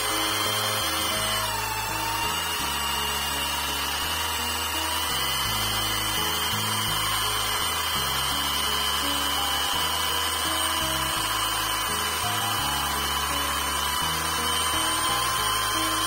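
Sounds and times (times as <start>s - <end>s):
background music with bass: 0.0s - 16.0s
electric drill whine: 0.0s - 16.0s.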